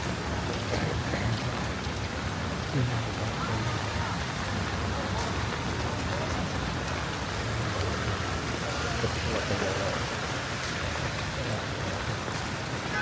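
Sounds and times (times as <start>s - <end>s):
rain on a wet street: 0.0s - 13.0s.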